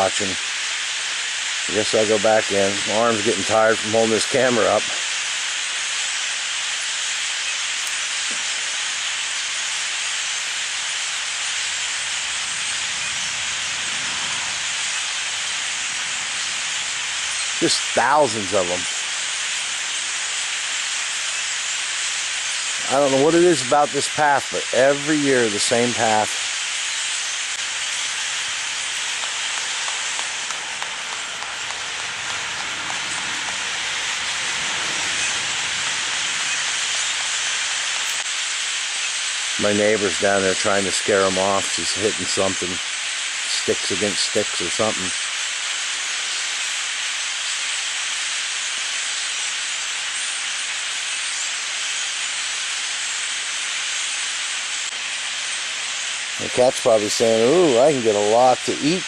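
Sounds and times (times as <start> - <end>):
flock of blackbirds chattering: 0.0 - 59.0.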